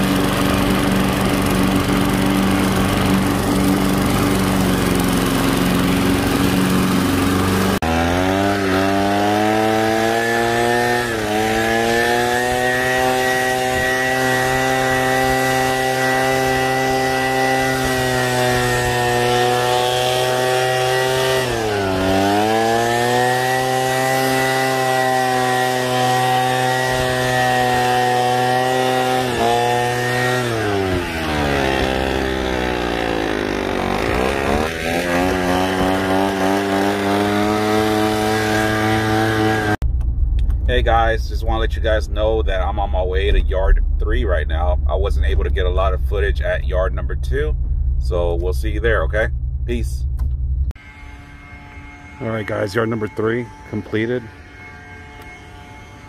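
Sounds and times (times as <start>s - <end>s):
high-revving small petrol engine: 0.0s - 39.8s, 50.7s - 56.0s
lawn mower engine running: 0.0s - 56.0s.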